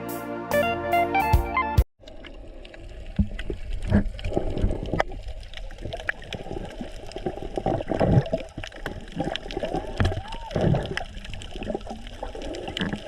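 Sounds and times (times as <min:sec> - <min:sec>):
water sloshing and splashing: 0:02.0 - 0:13.0.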